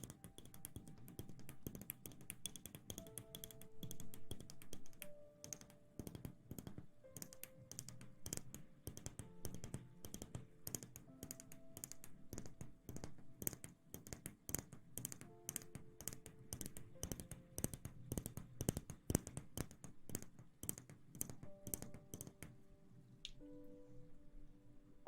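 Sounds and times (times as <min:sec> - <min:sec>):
crisp clicks and taps: 0:00.0 - 0:22.6
soft music of held notes: 0:00.0 - 0:25.0.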